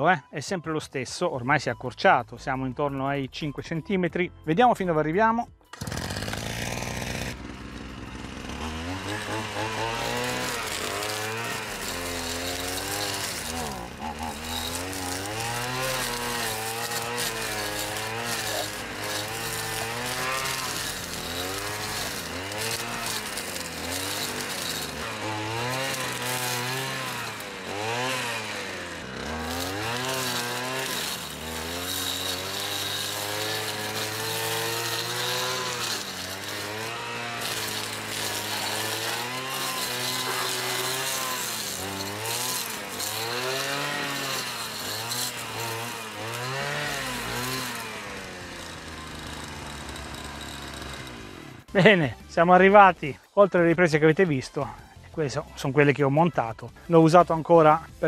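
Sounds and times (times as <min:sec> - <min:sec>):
brushcutter engine revving: 0:05.7 - 0:53.4
trimmer line cutting undergrowth: 0:05.7 - 0:58.0.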